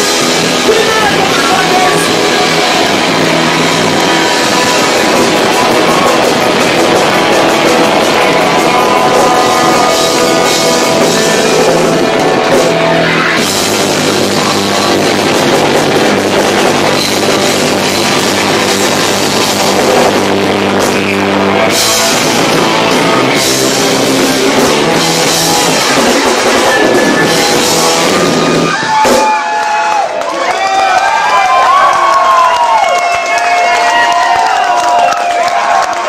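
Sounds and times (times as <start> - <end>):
distorted live rock band: 0.0 - 30.2.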